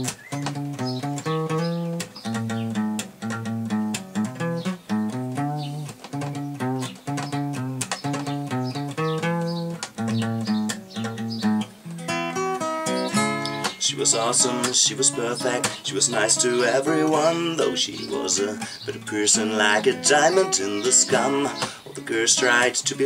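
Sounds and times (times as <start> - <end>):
acoustic guitar plucking: 0.0 - 23.0.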